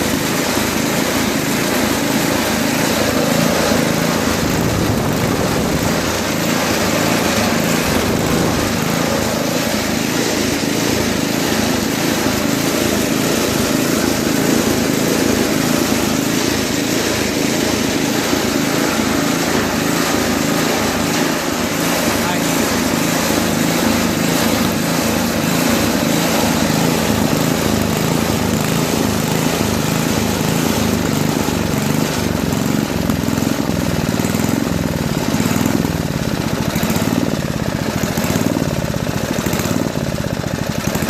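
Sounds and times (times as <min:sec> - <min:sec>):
snowblower engine running: 0:00.0 - 0:41.0.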